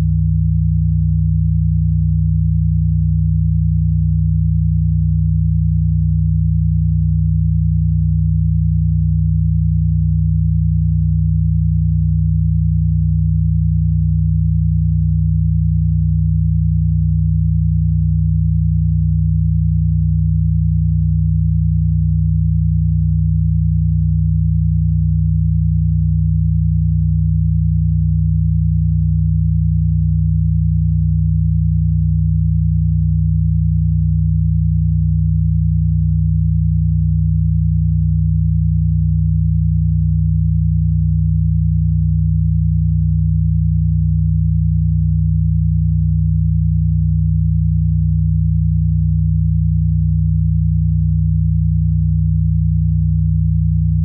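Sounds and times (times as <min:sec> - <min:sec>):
low synthesized pure tone: 0:00.0 - 0:54.0.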